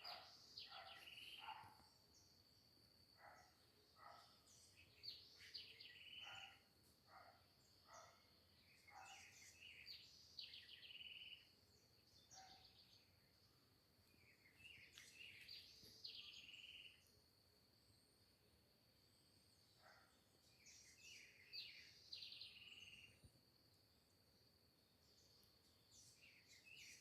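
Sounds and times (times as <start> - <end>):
birds chirping and trilling: 0.0 - 17.1, 19.6 - 23.3, 25.0 - 27.0.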